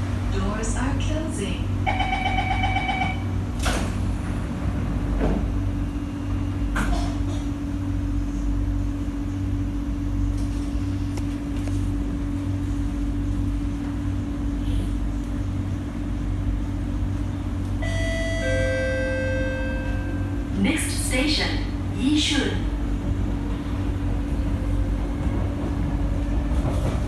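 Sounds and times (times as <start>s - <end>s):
train cabin hum and rumble: 0.0s - 27.0s.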